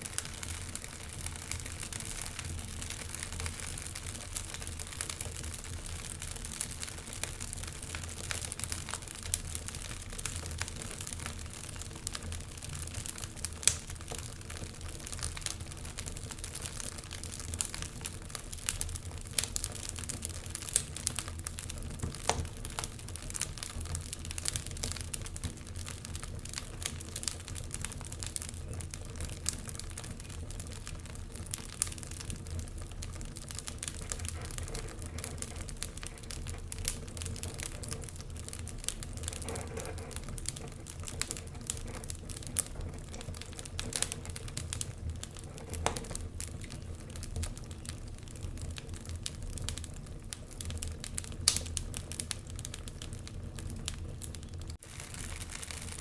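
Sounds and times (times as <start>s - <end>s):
fire low rumble: 0.0s - 56.0s
wood fire pops and snaps: 0.0s - 56.0s.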